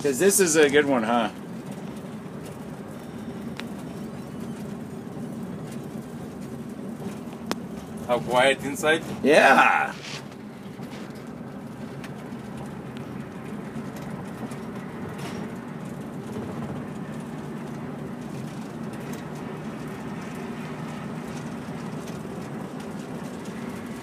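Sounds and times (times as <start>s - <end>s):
bus diesel engine drone: 0.0s - 24.0s
road noise: 0.0s - 24.0s.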